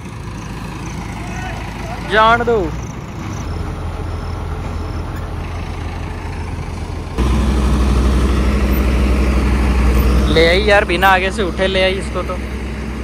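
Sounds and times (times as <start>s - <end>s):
heavy diesel engines running: 0.0s - 13.0s.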